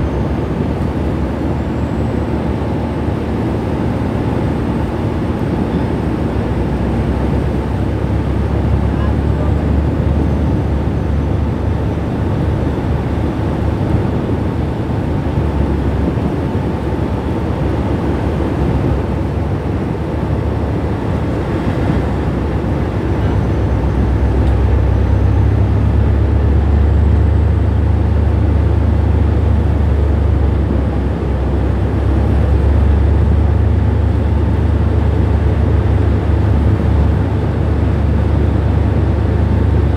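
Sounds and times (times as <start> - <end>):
ship engines rumbling: 0.0 - 39.9.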